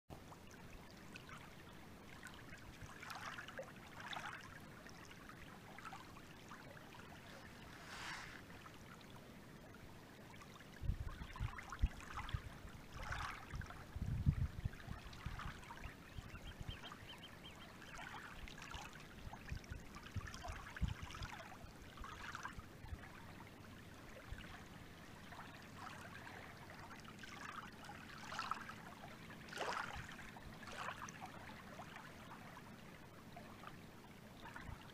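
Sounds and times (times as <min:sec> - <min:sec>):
lake waves lapping and splashing: 0:00.2 - 0:34.9.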